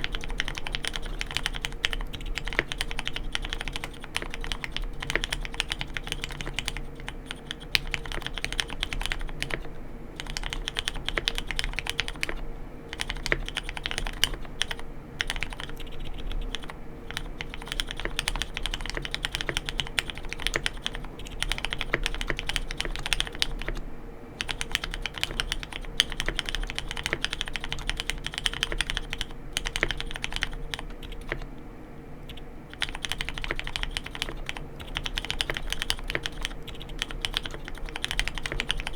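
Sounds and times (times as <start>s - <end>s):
mechanical keyboard typing: 0.0s - 23.8s, 24.4s - 31.5s, 32.2s - 38.9s.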